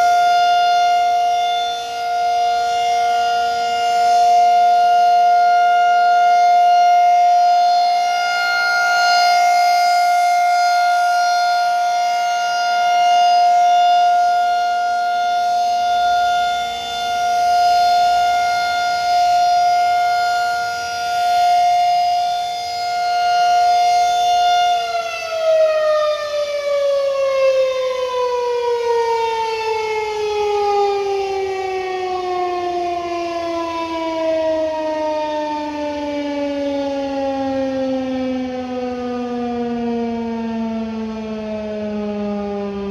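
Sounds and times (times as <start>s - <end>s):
rotating warning siren: 0.0s - 42.9s.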